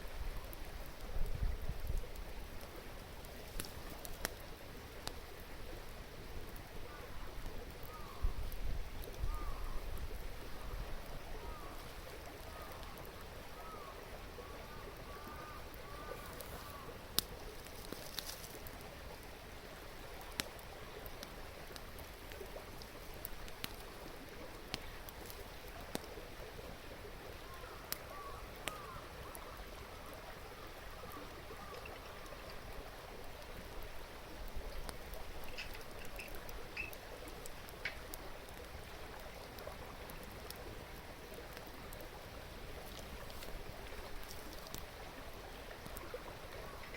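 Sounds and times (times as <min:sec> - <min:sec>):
wood fire crackling: 0:00.0 - 0:46.9
river babbling: 0:08.9 - 0:46.9.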